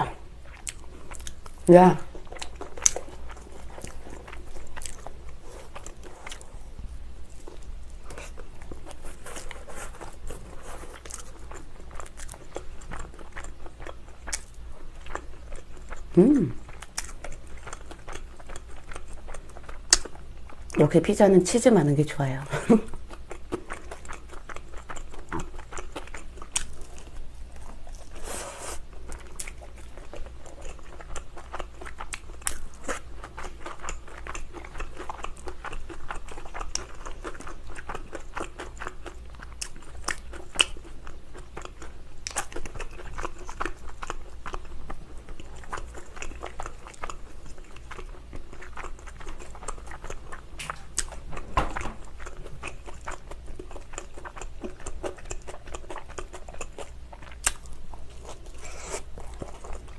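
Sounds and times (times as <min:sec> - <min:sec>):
biting and chewing pizza: 0:00.0 - 0:20.7, 0:22.6 - 0:59.9.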